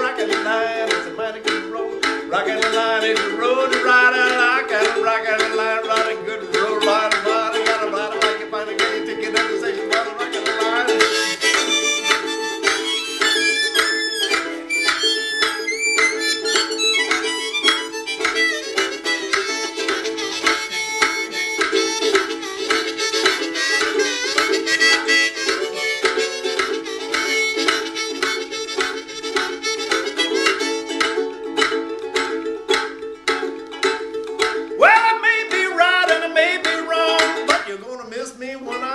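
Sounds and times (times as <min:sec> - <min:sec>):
fast chugging ukulele strum: 0:00.0 - 0:38.9
harmonica playing: 0:06.0 - 0:37.6.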